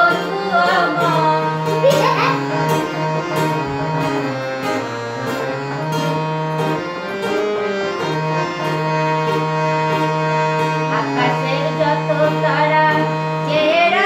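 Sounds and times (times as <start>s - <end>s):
acoustic guitar strumming: 0.0s - 14.0s
harmonium melody over drone: 0.0s - 14.0s.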